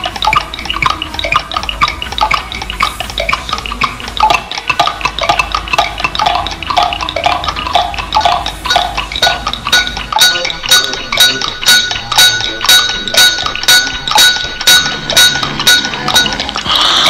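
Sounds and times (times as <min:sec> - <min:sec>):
tinkling clinking notes: 0:00.0 - 0:17.0.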